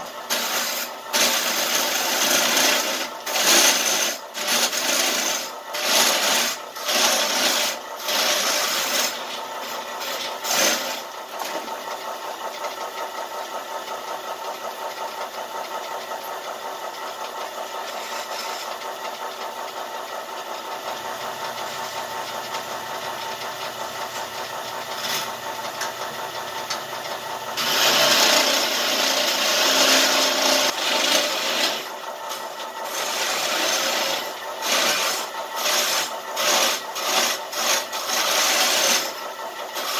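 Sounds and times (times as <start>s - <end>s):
lathe motor humming: 0.0s - 39.9s
tool scraping spinning wood: 0.0s - 39.9s.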